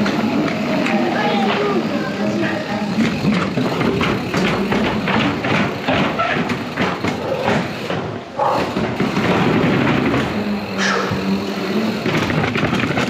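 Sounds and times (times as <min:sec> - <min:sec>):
bike frame and chain rattling: 0:00.0 - 0:13.0
constant rushing noise: 0:00.0 - 0:13.0.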